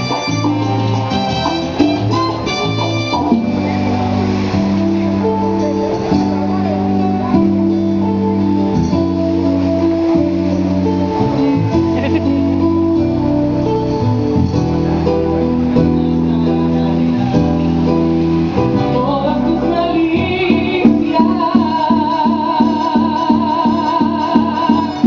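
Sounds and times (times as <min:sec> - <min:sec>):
wavering melody line: 0:00.0 - 0:24.2
guitar chords: 0:00.0 - 0:25.0.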